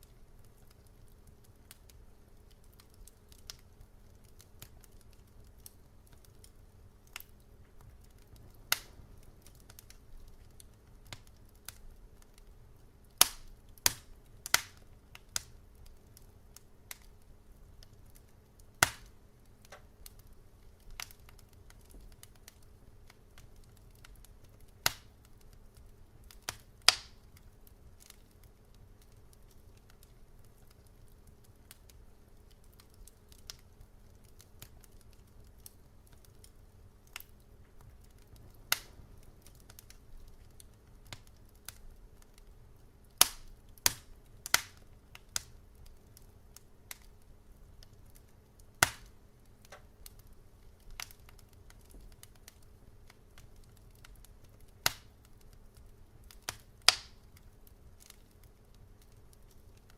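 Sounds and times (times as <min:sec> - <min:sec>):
low steady hum: 0:00.0 - 0:59.9
wood fire crackling: 0:00.0 - 0:59.9.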